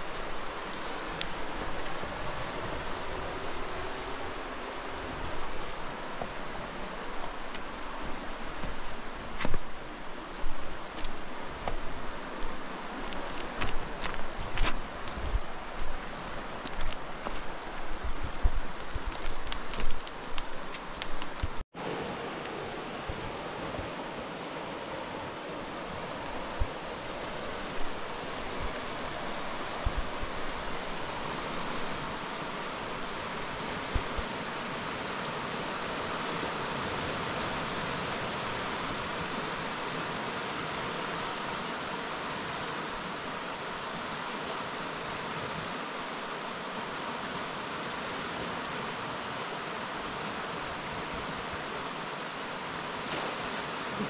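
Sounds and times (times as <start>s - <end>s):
river rushing: 0.0s - 54.0s.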